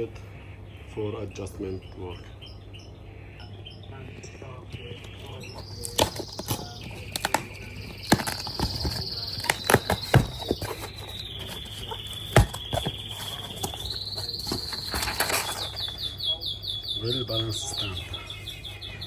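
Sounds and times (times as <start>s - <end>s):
bird trilling song: 0.0s - 19.0s.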